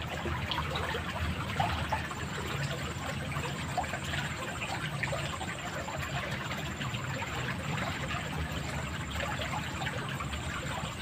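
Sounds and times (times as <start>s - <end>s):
water trickling in a ditch: 0.0s - 11.0s.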